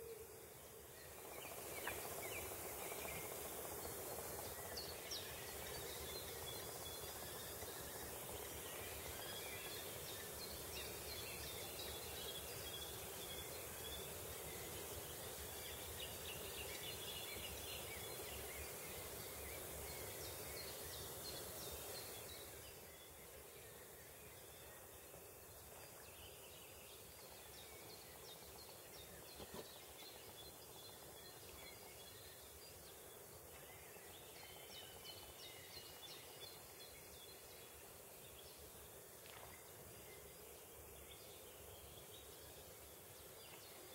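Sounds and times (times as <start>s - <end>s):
background hiss: 0.0s - 43.9s.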